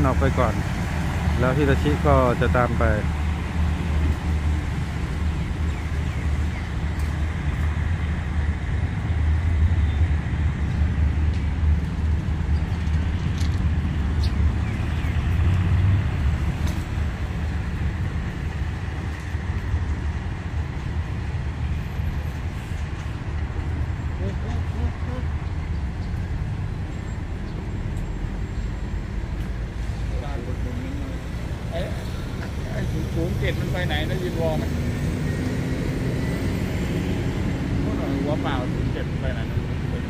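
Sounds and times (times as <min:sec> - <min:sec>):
diesel railcar engine running: 0:00.0 - 0:40.0.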